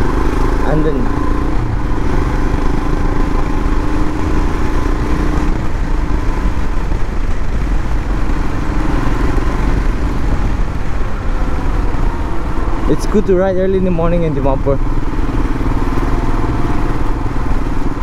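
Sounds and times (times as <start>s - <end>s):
motorcycle engine running: 0.0s - 18.0s
wind rush on microphone: 1.3s - 18.0s.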